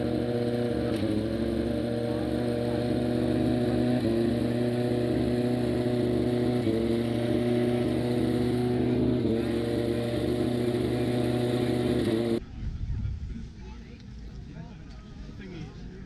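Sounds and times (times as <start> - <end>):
motorcycle engine revving steadily: 0.0 - 14.5.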